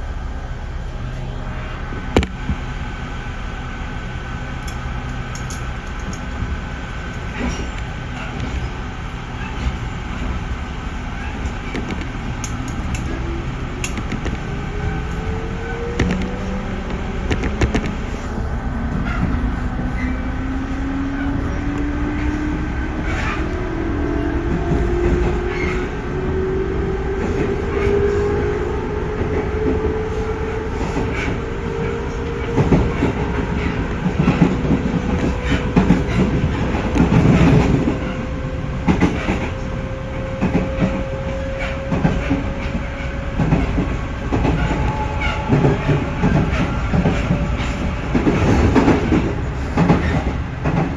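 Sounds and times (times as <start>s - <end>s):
wheels clacking over rail joints: 4.6s - 50.9s.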